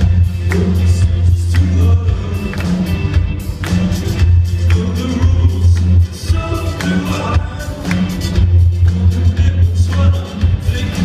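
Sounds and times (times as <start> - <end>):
drum kit beat: 0.0 - 11.0
electric guitars: 0.0 - 11.0
heavy bass line: 0.0 - 11.0.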